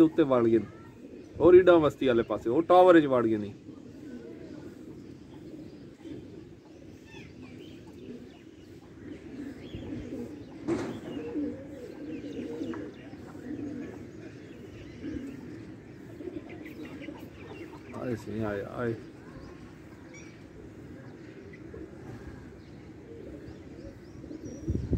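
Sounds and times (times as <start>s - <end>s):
pigeons cooing: 0.0s - 24.9s
small birds chirping: 0.0s - 24.9s.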